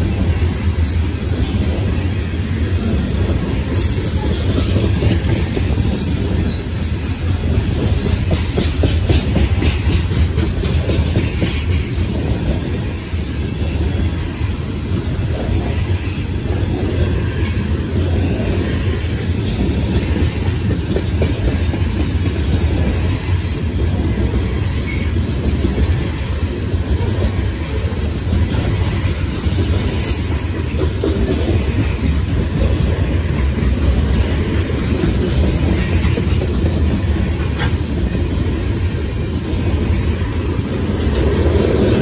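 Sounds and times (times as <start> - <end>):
steel train wheels on rails: 0.0 - 42.0.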